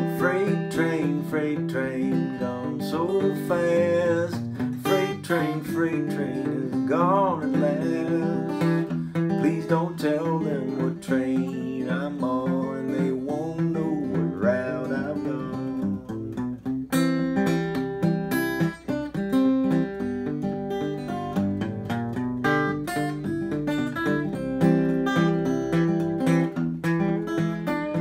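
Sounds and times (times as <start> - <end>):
fingerpicked acoustic guitar: 0.0 - 28.0.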